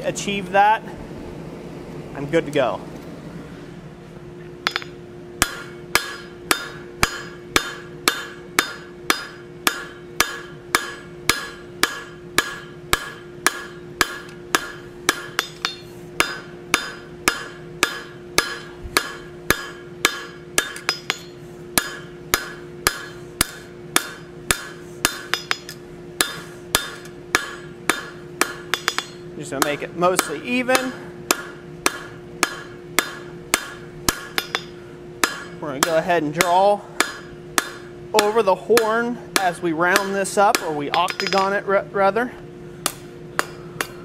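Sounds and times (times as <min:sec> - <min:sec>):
low hum: 0:00.0 - 0:44.0
hammer striking steel on anvil: 0:04.6 - 0:41.7, 0:42.8 - 0:44.0.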